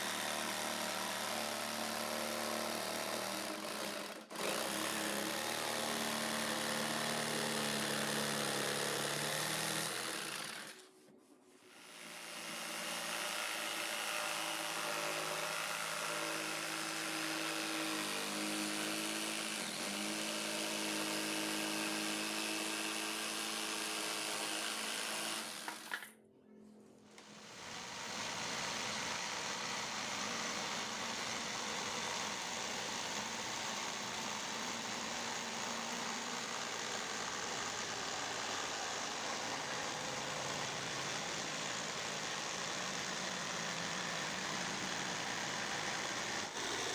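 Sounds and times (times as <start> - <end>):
circular saw running: 0.0 - 10.8, 11.7 - 26.1, 27.2 - 46.9.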